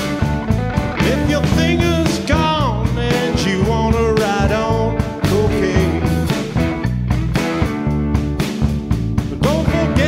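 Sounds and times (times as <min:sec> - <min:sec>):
blues-rock band playing: 0:00.0 - 0:10.0
electric guitar lead bending: 0:00.0 - 0:10.0.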